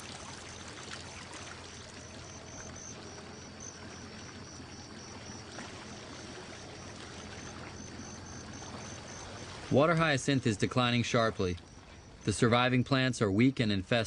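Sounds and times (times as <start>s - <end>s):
faint low hum: 0.0s - 14.0s
rushing water: 0.0s - 14.0s.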